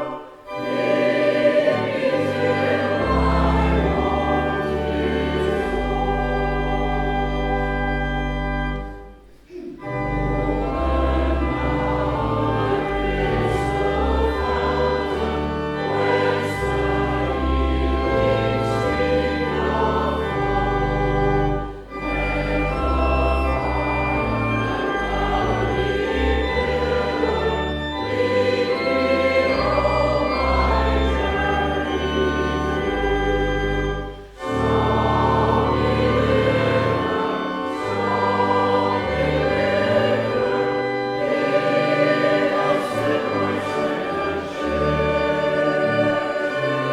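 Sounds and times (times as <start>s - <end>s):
choir singing a hymn: 0.0s - 8.4s, 9.6s - 46.9s
organ accompaniment: 0.0s - 46.9s.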